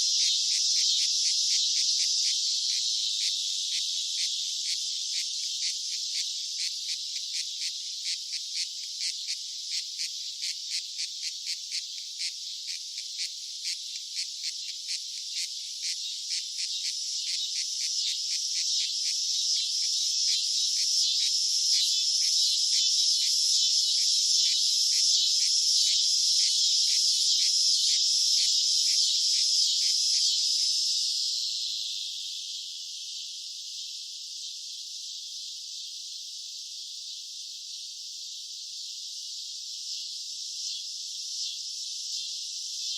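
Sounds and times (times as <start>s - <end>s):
cicadas calling: 0.0s - 32.0s, 40.6s - 42.9s.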